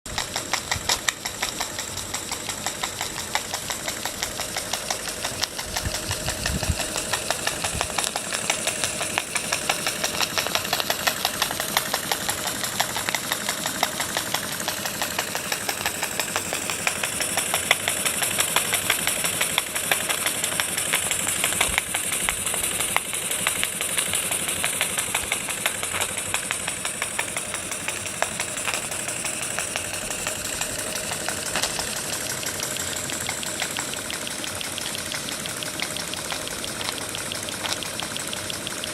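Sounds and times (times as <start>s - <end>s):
model steam engine running: 0.1s - 38.9s.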